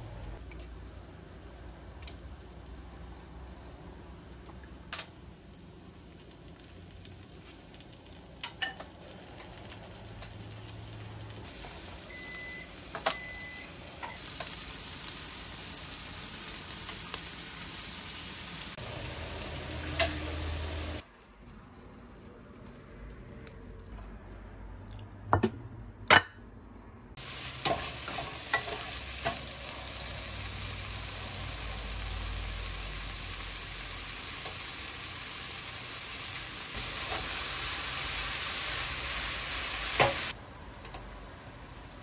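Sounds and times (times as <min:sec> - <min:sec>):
vegetables sizzling in oil: 0:00.3 - 0:21.1, 0:27.2 - 0:42.0.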